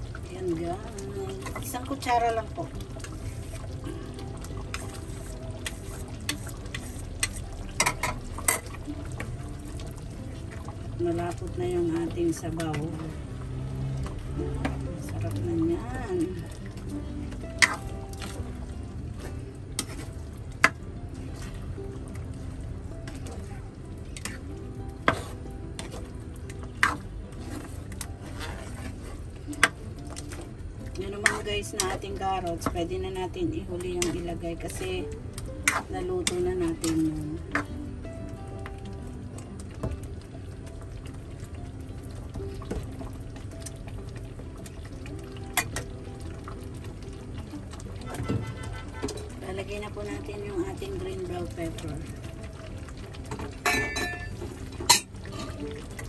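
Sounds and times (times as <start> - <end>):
sauce sizzling in frying pan: 0.0 - 56.0
stew bubbling: 0.0 - 56.0
spoon stirring stew: 0.1 - 13.2, 13.9 - 41.6, 42.2 - 56.0.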